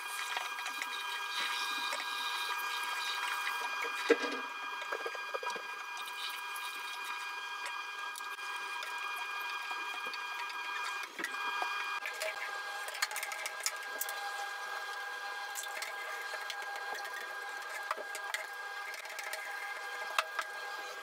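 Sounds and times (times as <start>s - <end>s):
mechanical whir with high tones: 0.0s - 21.0s.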